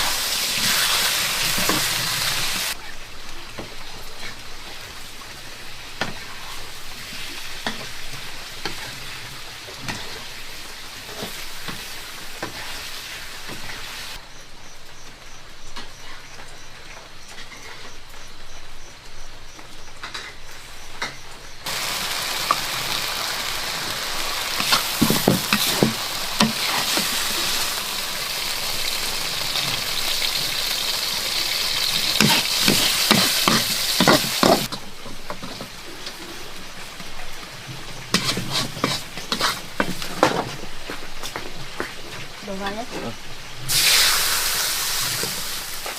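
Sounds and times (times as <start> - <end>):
food sizzling in a pan: 0.0 - 14.2, 20.1 - 45.9.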